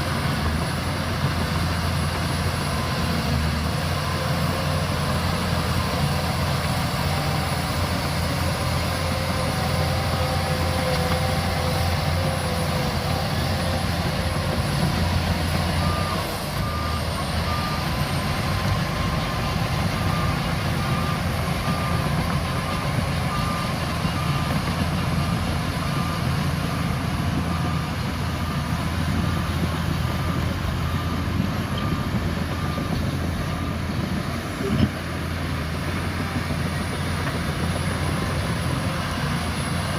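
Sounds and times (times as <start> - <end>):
bulldozer diesel engine: 0.0 - 39.9
reversing alarm beeping: 1.4 - 34.9.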